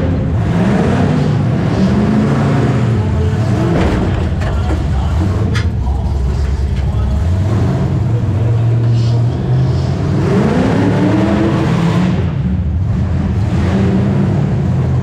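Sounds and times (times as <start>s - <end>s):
car engine rumbling and revving: 0.0s - 15.0s.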